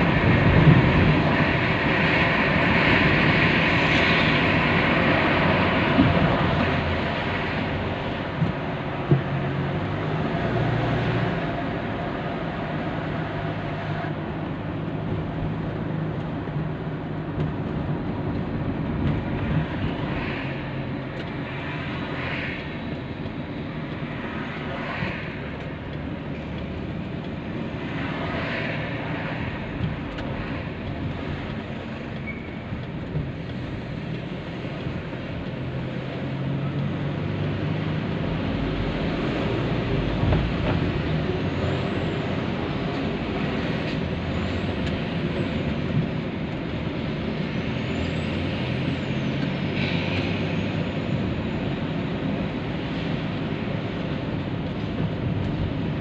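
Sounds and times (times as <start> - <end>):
low engine hum: 0.0 - 56.0
tyre and road noise: 0.0 - 56.0.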